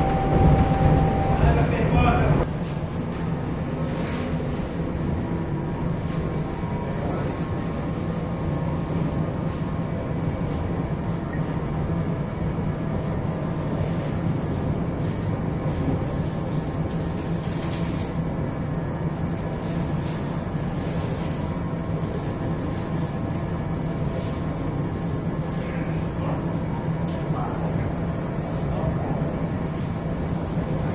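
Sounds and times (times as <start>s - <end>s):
train cabin hum: 0.0s - 30.9s.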